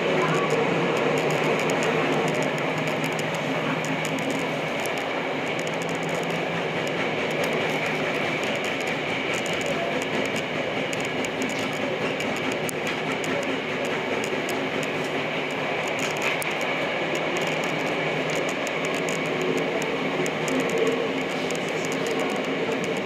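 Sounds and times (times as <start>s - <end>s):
subway train wheels rumbling: 0.0s - 23.0s
faint clicks: 0.2s - 23.0s.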